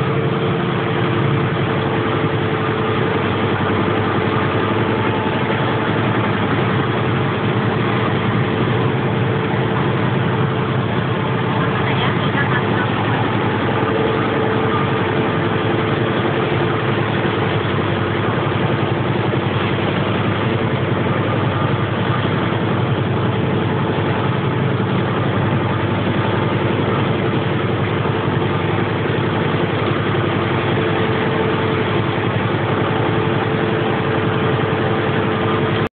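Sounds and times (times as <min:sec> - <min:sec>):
motor boat engine droning: 0:00.0 - 0:35.9.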